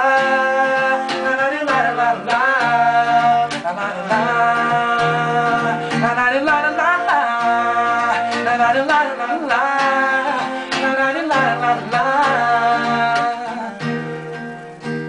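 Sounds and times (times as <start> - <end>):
men singing: 0.0 - 14.8
strummed acoustic guitar: 0.0 - 15.0.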